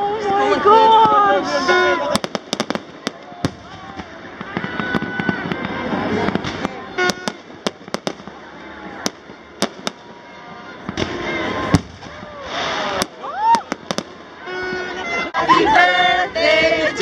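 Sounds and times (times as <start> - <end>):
fireworks banging and crackling: 0.0 - 15.4.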